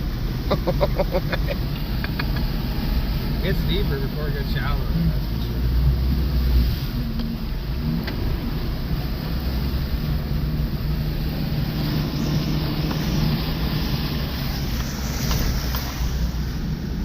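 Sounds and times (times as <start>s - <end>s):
vehicle engine running at low revs: 0.0s - 17.0s
vehicle wading through water: 0.0s - 17.0s.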